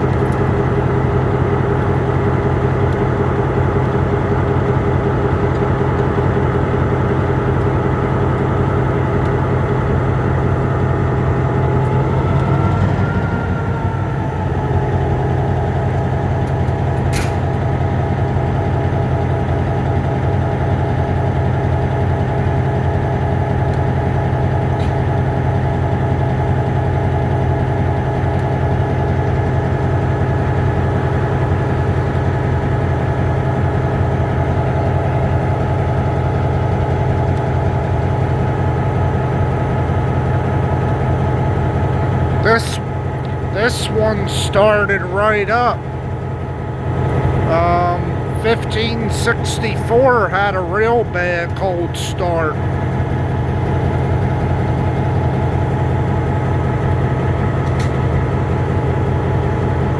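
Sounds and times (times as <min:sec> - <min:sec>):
diesel locomotive engine idling: 0:00.0 - 0:59.9.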